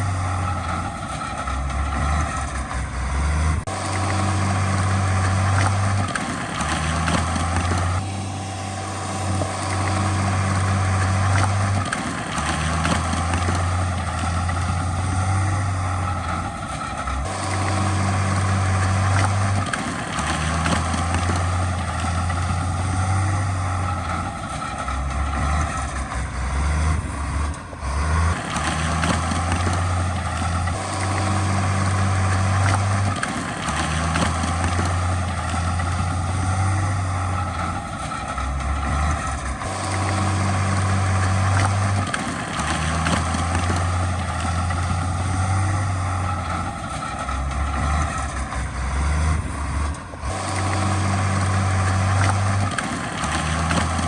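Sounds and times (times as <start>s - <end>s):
heavy diesel machinery working: 0.0s - 54.0s.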